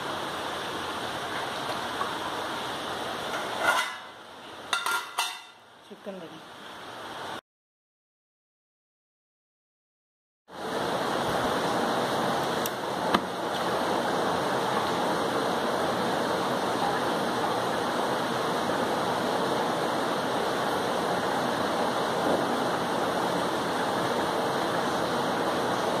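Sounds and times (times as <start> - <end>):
heavy rain falling: 0.0 - 4.8, 5.7 - 7.4, 10.5 - 26.0.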